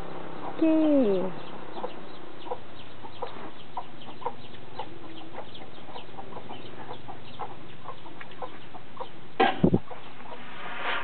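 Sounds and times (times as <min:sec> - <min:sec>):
chickens clucking: 0:00.0 - 0:10.6.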